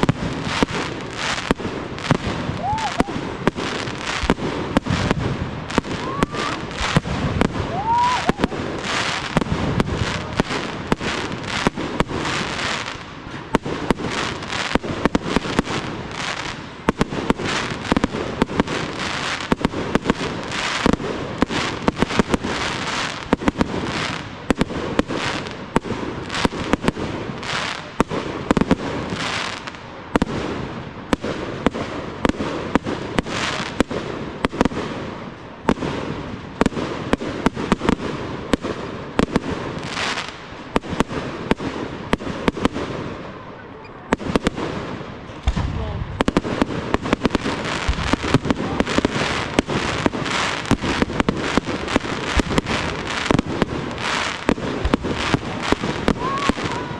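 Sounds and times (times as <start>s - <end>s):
firework bangs: 0.0s - 56.9s
firework crackling and hiss: 0.0s - 56.9s.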